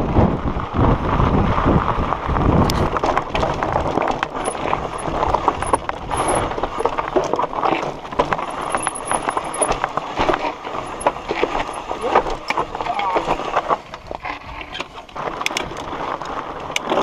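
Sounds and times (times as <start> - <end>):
mountain bike rattling over rocks: 0.1 - 17.0.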